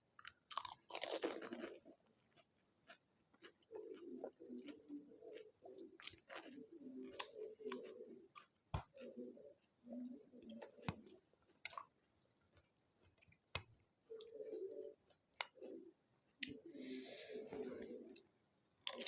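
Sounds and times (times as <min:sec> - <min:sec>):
wet chewing: 0:00.2 - 0:15.8.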